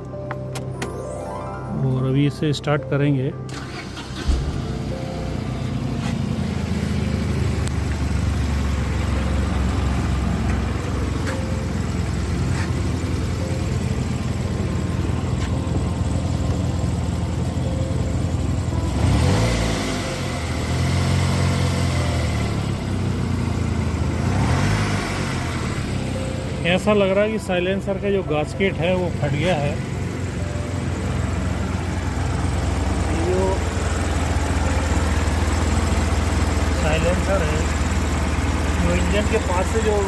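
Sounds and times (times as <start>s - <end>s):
car engine idling and revving: 3.3s - 40.0s.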